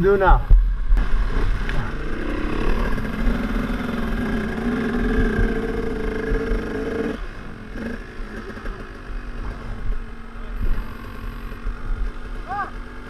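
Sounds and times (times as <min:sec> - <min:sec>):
dirt bike engine running: 0:00.5 - 0:13.0.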